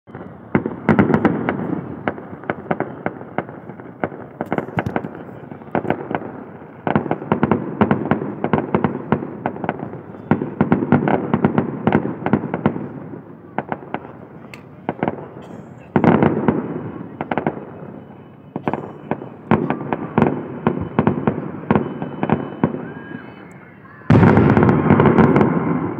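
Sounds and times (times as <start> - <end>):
fireworks popping and banging: 0.1 - 23.0, 24.0 - 25.9.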